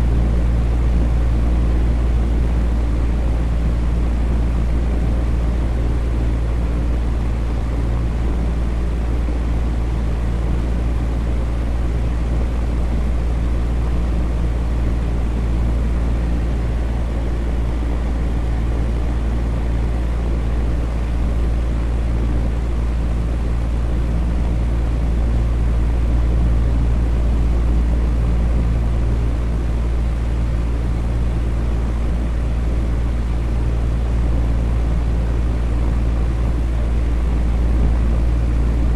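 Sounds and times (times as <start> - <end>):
electric fan humming: 0.0 - 38.9.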